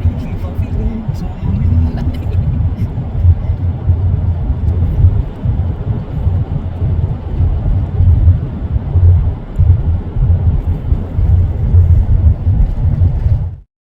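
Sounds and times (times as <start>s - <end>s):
vehicle rumble on road: 0.0s - 13.6s.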